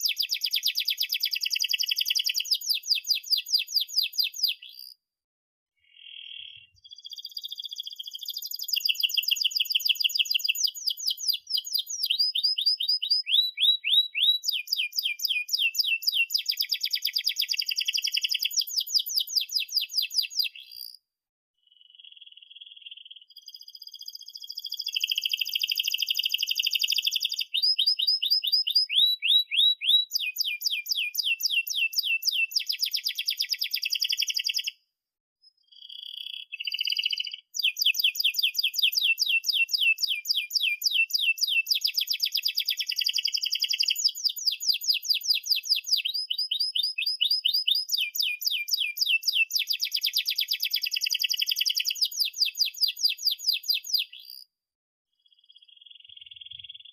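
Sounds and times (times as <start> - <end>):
canary singing trills: 0.0 - 5.0, 5.8 - 21.0, 21.7 - 34.8, 35.4 - 54.5, 55.2 - 56.9.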